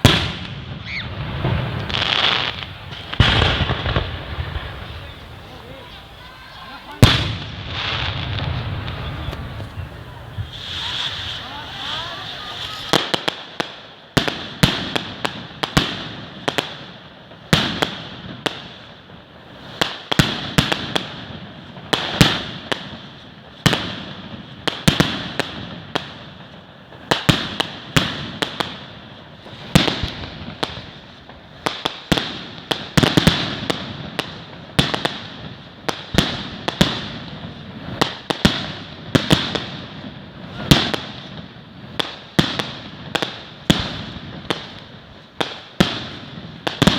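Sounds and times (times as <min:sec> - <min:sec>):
crackling hiss: 0:00.0 - 0:46.9
fireworks bangs: 0:00.0 - 0:46.9.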